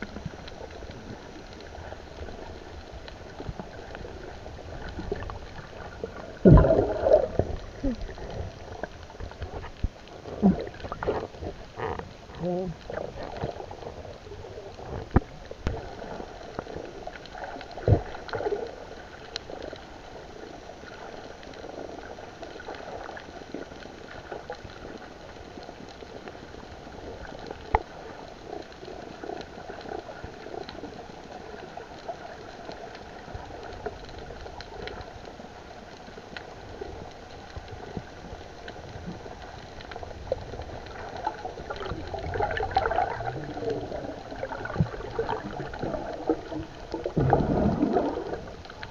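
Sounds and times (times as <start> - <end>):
muffled underwater water wash: 0.0 - 48.9
water bubbling: 0.0 - 48.9.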